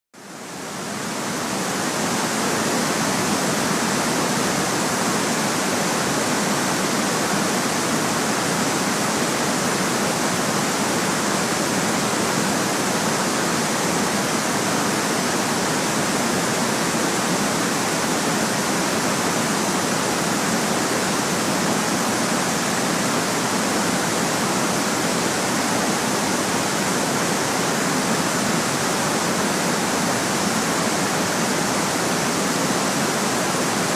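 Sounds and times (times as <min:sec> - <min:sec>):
steady white noise hiss: 0:00.2 - 0:33.9.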